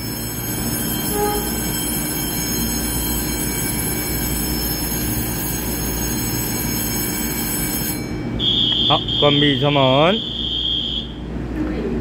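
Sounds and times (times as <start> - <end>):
train hum with high whining: 0.0 - 12.0.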